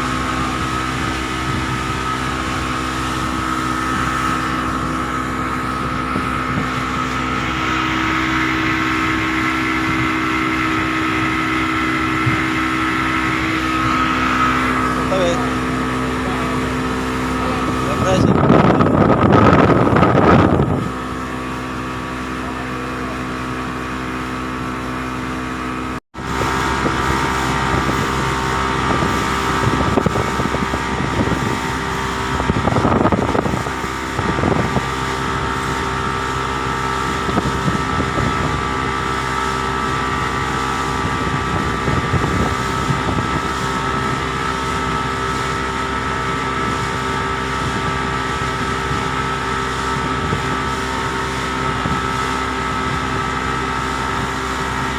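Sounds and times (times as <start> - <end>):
boat engine running: 0.0 - 54.9
wind on microphone: 0.0 - 54.9.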